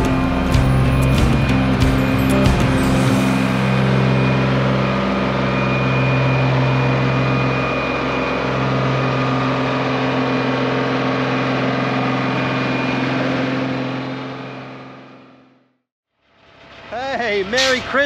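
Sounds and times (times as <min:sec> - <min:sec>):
diesel truck engine running: 0:00.0 - 0:15.7.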